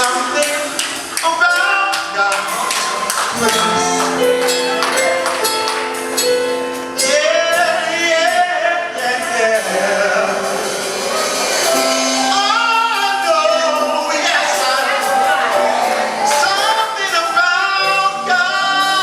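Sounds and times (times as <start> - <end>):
gospel singing: 0.0 - 5.8, 6.8 - 19.0
percussion strikes: 0.0 - 18.0
held accompanying chords: 0.0 - 19.0.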